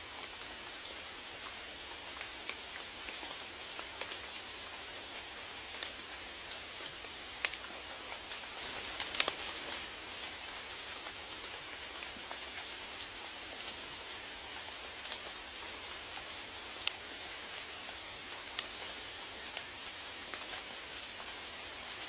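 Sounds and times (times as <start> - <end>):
steady rain hiss: 0.0 - 22.0
raindrops tapping close by: 0.2 - 22.0.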